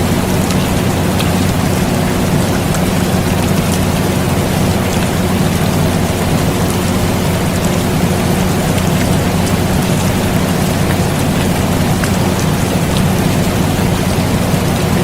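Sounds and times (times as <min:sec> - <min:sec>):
air conditioner humming: 0:00.0 - 0:15.0
rain falling: 0:00.0 - 0:15.0.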